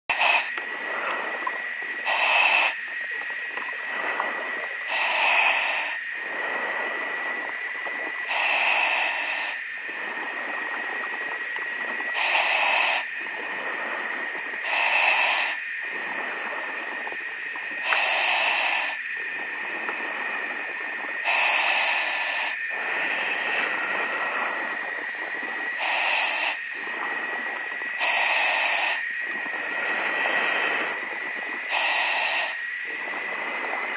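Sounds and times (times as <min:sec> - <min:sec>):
regulator breathing air rushes: 0:00.1 - 0:02.8, 0:03.9 - 0:16.9, 0:17.8 - 0:33.9
steady high tone and hiss: 0:00.1 - 0:33.9.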